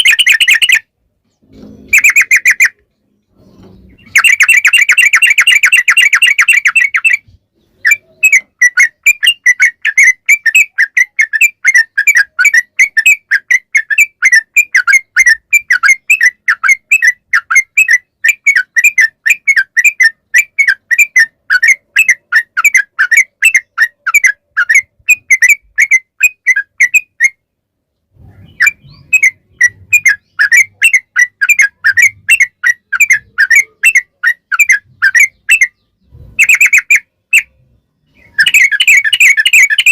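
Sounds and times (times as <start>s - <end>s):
bird chirping whistled notes: 0.0s - 0.9s, 1.7s - 27.5s, 28.2s - 39.9s.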